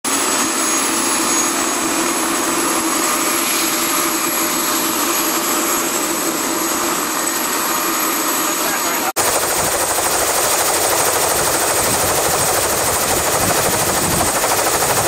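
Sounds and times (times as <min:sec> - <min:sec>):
helicopter engine and rotor: 0:00.1 - 0:15.0.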